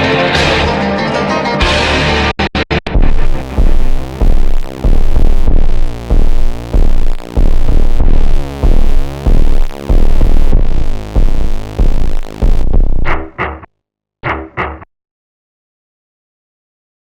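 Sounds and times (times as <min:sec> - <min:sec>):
electronic music with heavy bass: 0:00.0 - 0:14.8.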